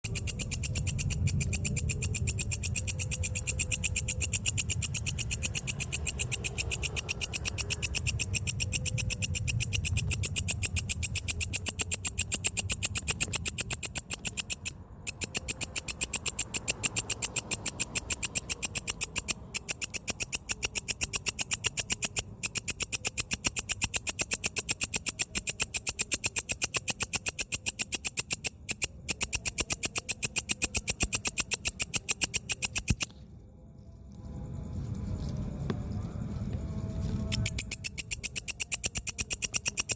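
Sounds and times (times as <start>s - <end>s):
katydid raspy clicks: 0.0s - 33.2s, 37.2s - 39.9s.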